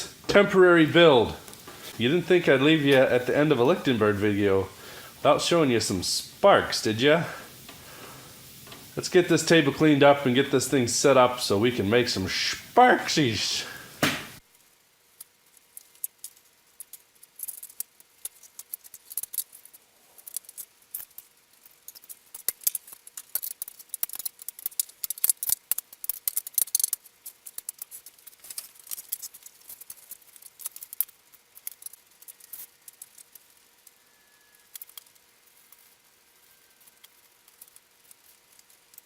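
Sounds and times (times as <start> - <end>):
small objects clicking and clattering: 1.3 - 11.5, 14.3 - 39.0.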